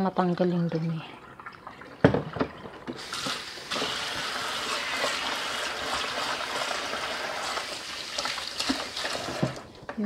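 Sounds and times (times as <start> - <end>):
tap water running into bowl: 0.7 - 9.7.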